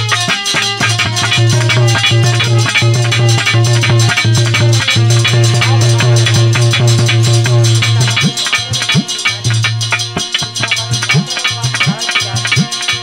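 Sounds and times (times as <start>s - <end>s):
low sustained note: 0.0s - 11.1s
hand drum bass strokes: 0.0s - 13.0s
shaker percussion clicks: 0.0s - 13.0s.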